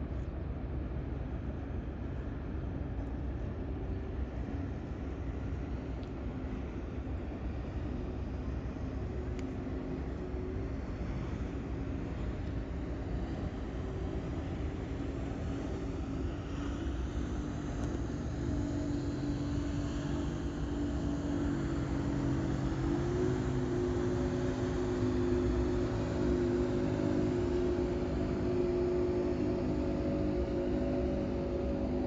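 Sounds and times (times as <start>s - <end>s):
ship engine drone: 0.0s - 32.0s.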